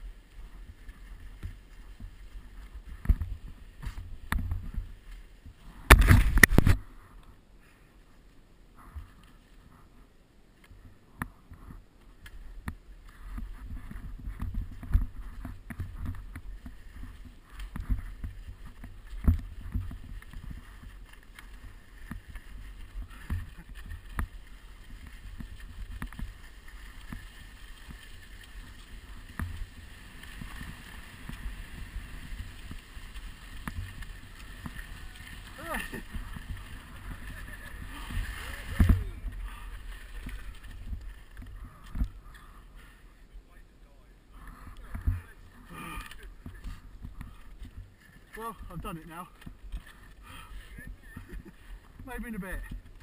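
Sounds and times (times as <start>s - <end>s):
skis sliding over crusty snow: 0.0s - 53.0s.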